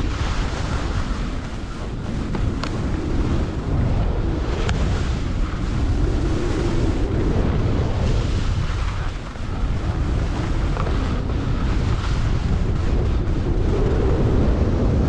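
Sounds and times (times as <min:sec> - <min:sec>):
skis scraping over snow: 0:00.0 - 0:15.0
wind buffeting microphone: 0:00.0 - 0:15.0.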